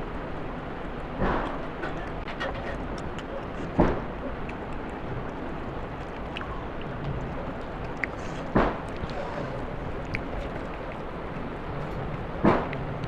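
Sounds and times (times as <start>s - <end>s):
wet chewing clicks: 0.3s - 13.0s.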